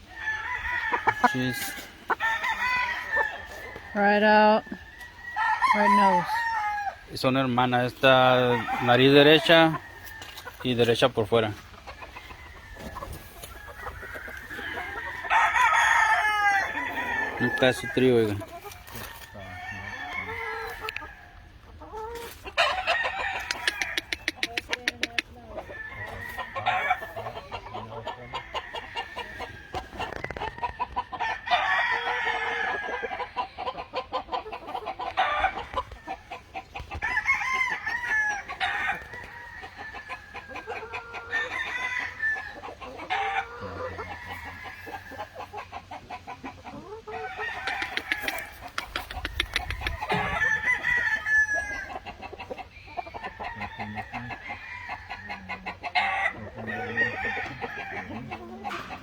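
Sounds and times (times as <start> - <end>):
chickens clucking: 0.0 - 59.0
roosters crowing: 0.0 - 59.0.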